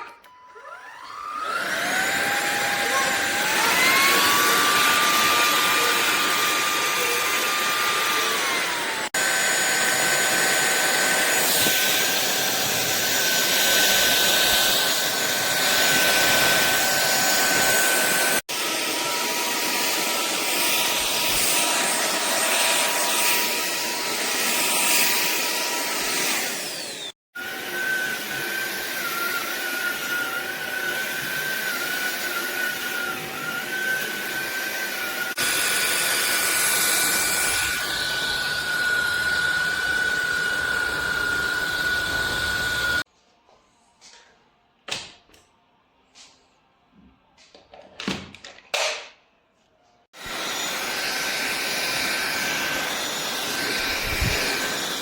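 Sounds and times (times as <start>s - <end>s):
vacuum motor whine: 0.3s - 43.1s, 50.2s - 55.0s.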